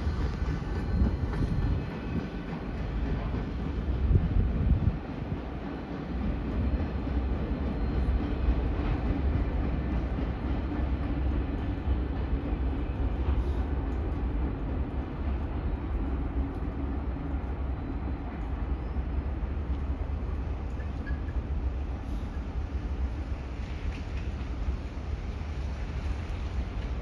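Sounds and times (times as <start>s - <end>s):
freight train rumbling past: 0.0s - 27.0s.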